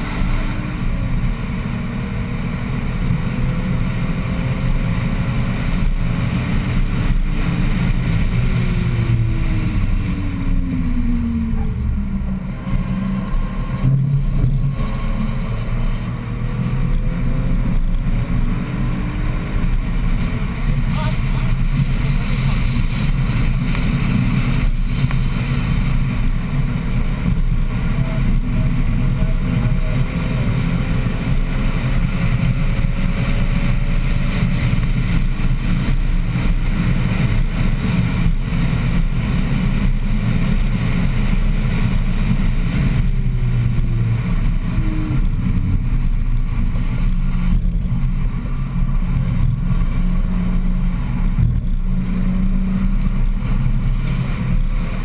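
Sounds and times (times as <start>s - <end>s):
car engine running hard: 0.0s - 55.0s
wind and road noise: 0.0s - 55.0s.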